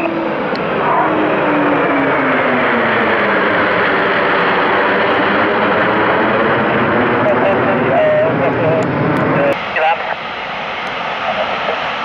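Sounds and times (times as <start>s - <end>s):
jet passing with falling whine: 0.0s - 12.0s.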